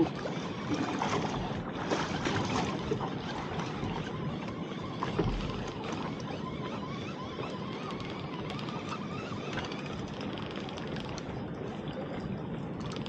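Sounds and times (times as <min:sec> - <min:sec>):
water against boat hull: 0:00.0 - 0:13.0
wind: 0:00.0 - 0:13.0.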